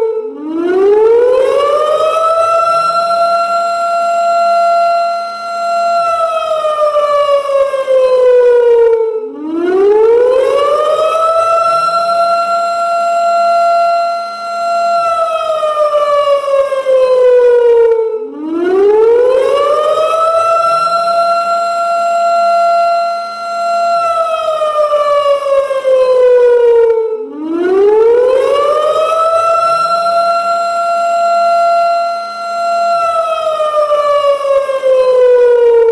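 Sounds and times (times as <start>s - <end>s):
warning siren: 0.0s - 35.9s.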